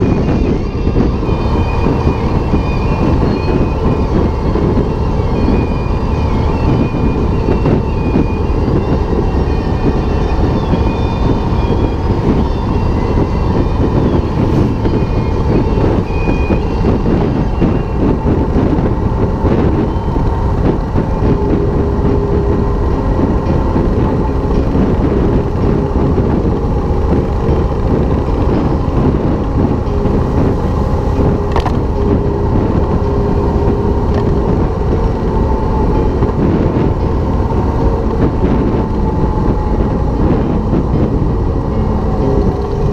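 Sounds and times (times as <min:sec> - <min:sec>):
motorcycle engine running: 0:00.0 - 0:42.9
wind rush: 0:00.0 - 0:42.9.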